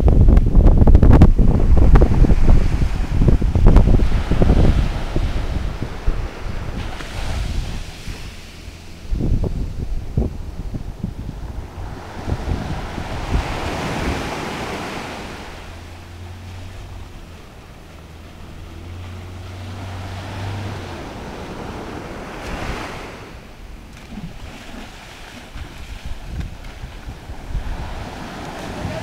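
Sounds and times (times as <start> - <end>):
wind buffeting microphone: 0.0 - 29.0
outboard motor humming: 0.1 - 29.0
surf washing up a beach: 0.4 - 29.0.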